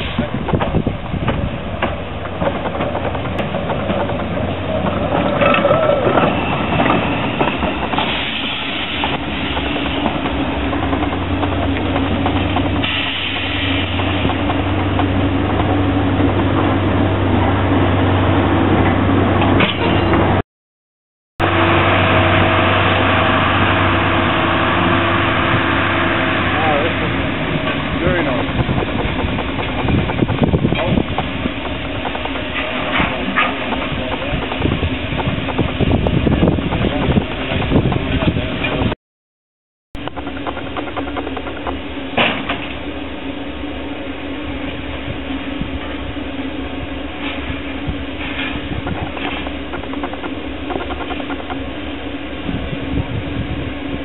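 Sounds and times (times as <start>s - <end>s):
diesel locomotive idling: 0.0s - 20.4s, 21.4s - 39.0s, 40.0s - 54.0s
steam locomotive working slowly: 0.0s - 20.4s, 21.4s - 39.0s, 40.0s - 54.0s.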